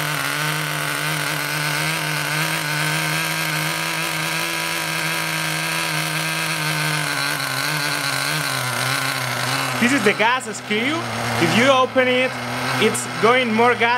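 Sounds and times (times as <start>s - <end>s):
small glow engine running: 0.0s - 13.9s.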